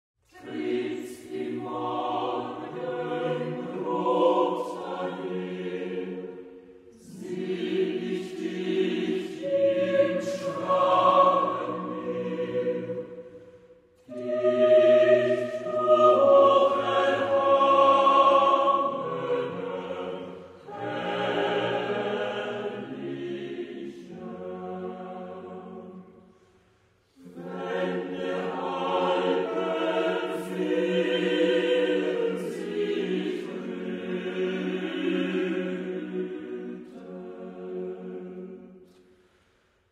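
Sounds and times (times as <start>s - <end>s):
choir singing: 0.3s - 39.1s.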